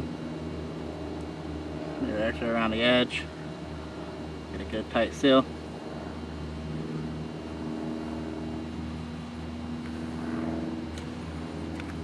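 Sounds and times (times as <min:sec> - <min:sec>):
engine droning: 0:00.0 - 0:12.0
low hum: 0:00.0 - 0:12.0.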